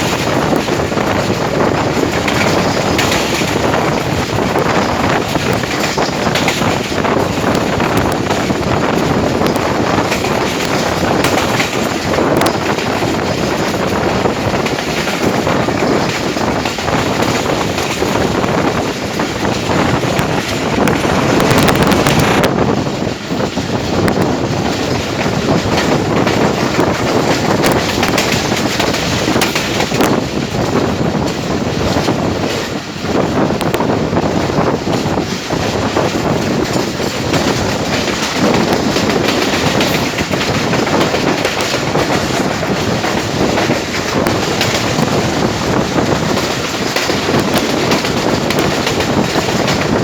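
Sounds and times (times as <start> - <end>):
clicks over rail joints: 0.0 - 22.5, 23.6 - 32.7, 35.0 - 50.0
train wheels rushing on rails: 0.0 - 50.0.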